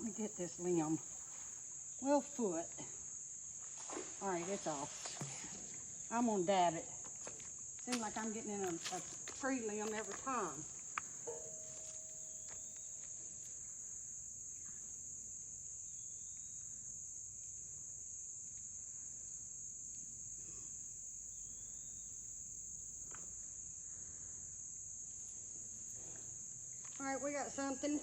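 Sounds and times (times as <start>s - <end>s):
shrill insect chorus: 0.0s - 28.0s.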